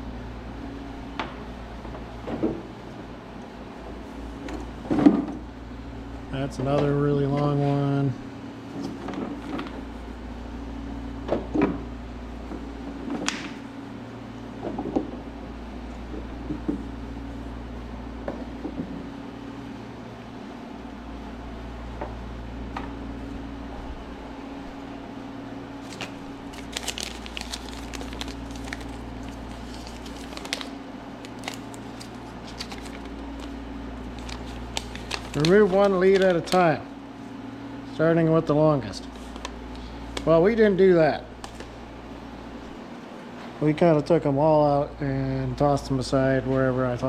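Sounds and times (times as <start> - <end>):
low background hum: 0.0 - 47.0.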